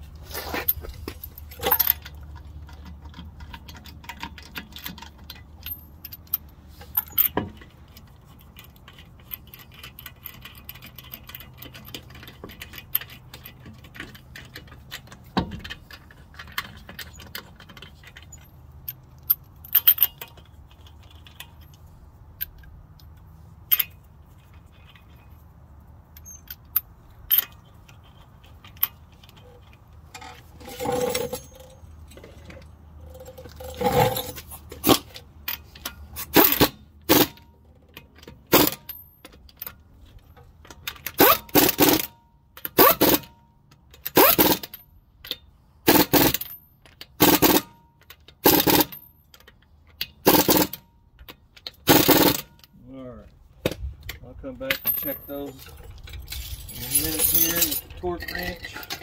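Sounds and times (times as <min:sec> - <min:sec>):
metal tools clinking and clattering: 0:00.3 - 0:22.6, 0:26.2 - 0:52.8, 0:54.1 - 0:59.0.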